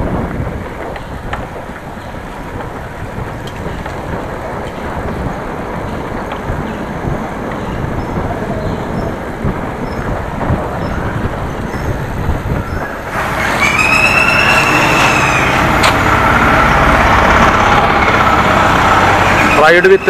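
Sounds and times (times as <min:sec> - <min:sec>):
road traffic noise: 0:00.0 - 0:20.0
wind rumble: 0:00.0 - 0:20.0.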